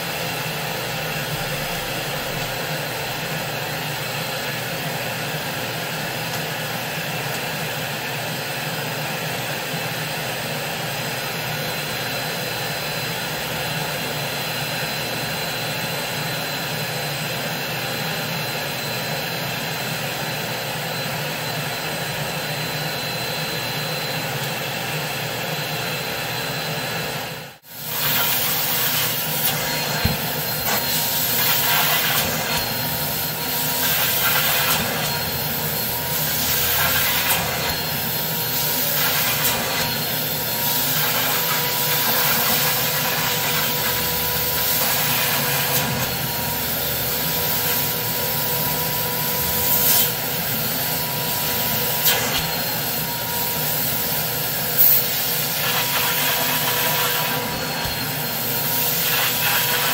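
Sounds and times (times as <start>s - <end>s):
carpet extractor wand rushing: 0.0s - 59.9s
cleaning machine motor drone: 0.0s - 59.9s.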